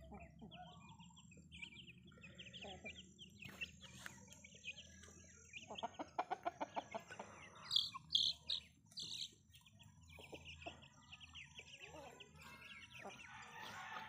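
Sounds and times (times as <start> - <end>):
chickens clucking: 0.0 - 14.0
chicks peeping: 0.0 - 14.0.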